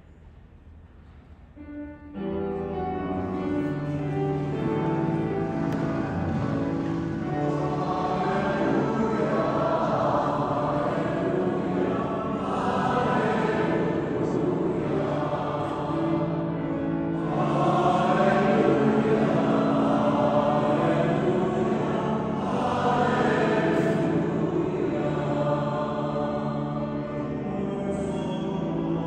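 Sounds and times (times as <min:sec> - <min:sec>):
steady accompaniment: 0:01.5 - 0:29.0
voices singing a hymn: 0:02.2 - 0:29.0.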